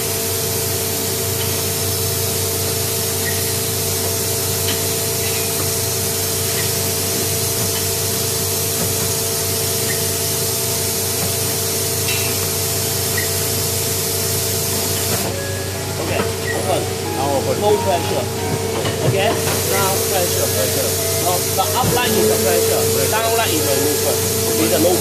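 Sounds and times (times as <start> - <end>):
hydraulic pump hissing and humming: 0.0 - 25.0.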